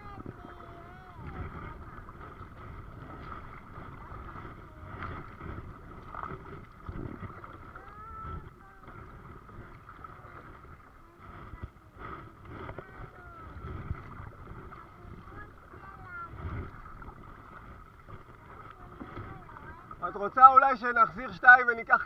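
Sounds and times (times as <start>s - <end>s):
oars splashing in water: 0.0s - 22.0s
wind rumble on microphone: 0.0s - 22.0s.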